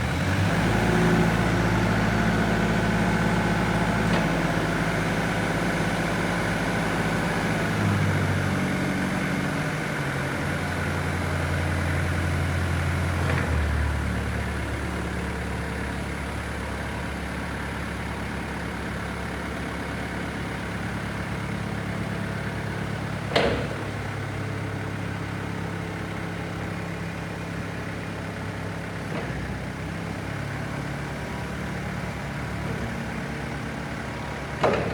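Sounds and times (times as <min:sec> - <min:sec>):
forklift engine idling: 0:00.0 - 0:34.9.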